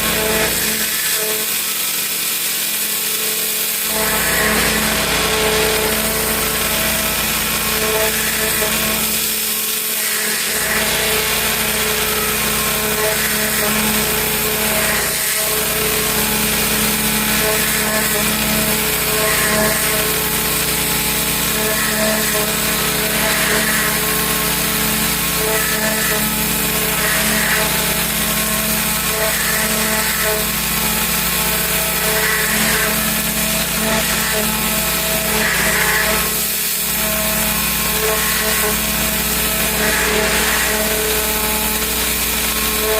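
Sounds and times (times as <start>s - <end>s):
pressure washer hum: 0.0s - 42.9s.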